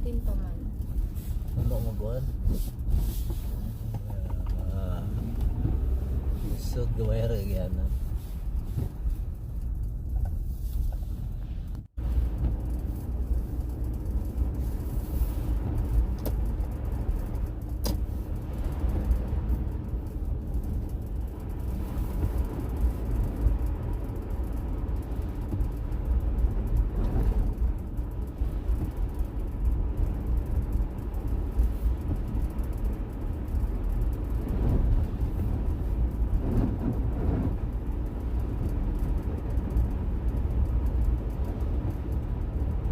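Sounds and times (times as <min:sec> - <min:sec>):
car road and engine rumble: 0:00.0 - 0:42.9.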